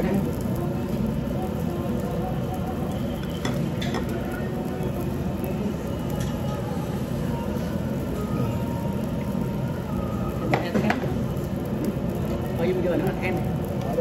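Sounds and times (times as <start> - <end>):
restaurant background noise: 0.0 - 14.0.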